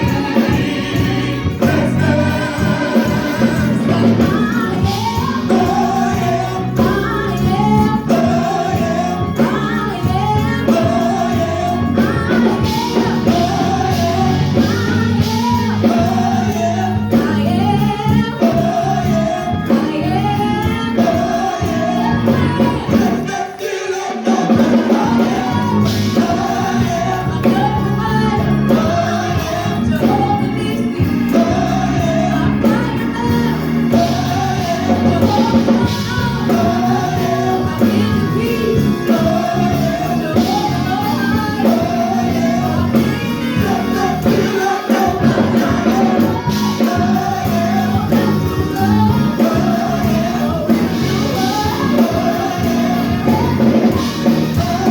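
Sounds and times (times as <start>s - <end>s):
steady bass line: 0.0s - 23.4s, 24.5s - 54.9s
group singing gospel song: 0.0s - 54.9s
instrumental backing: 0.0s - 54.9s.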